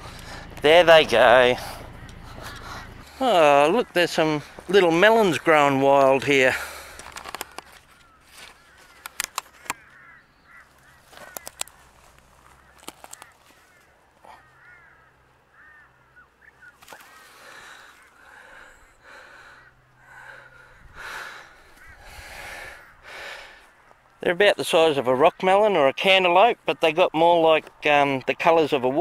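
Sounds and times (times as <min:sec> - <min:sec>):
dry grass crackling: 0:00.0 - 0:28.9
birds chirping: 0:00.0 - 0:29.0.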